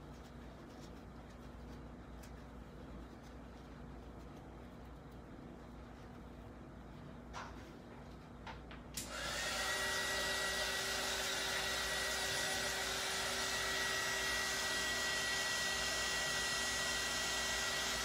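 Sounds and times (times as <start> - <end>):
heat gun fan whine: 0.0 - 18.0.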